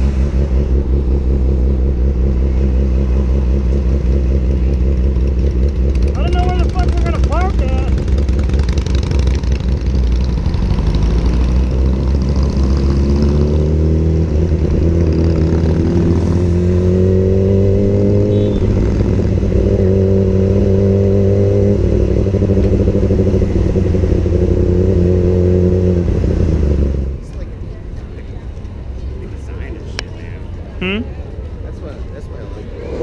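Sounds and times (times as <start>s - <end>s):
motorcycle engine accelerating: 0.0s - 27.2s.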